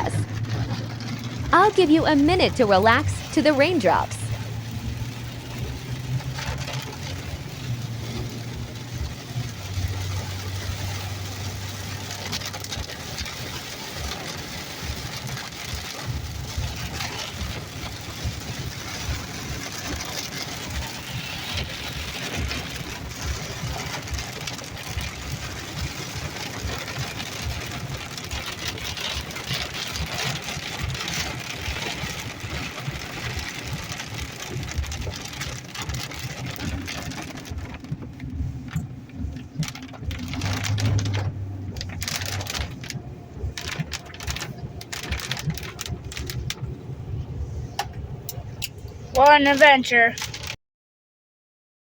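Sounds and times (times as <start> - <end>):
car engine and road noise: 0.0 - 50.6
heavy rain on car: 0.0 - 50.6.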